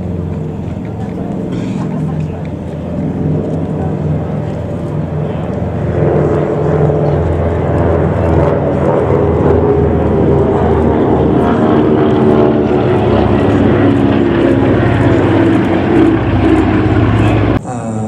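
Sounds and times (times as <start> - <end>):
propeller aircraft drone: 0.0 - 18.0.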